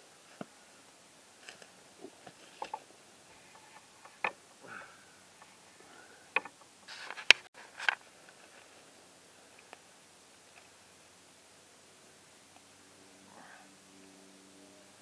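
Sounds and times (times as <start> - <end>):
campfire crackling: 0.0 - 14.1.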